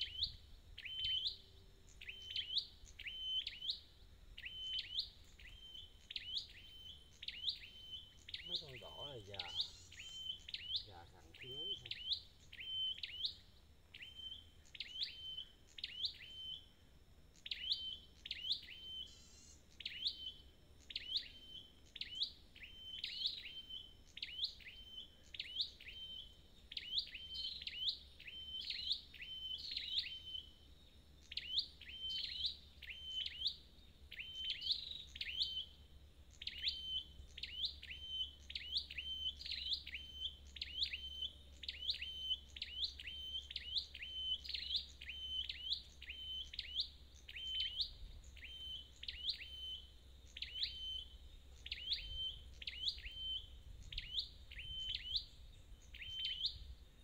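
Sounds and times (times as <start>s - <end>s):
bird chip calls: 0.0s - 16.7s, 17.4s - 30.6s, 31.2s - 56.7s.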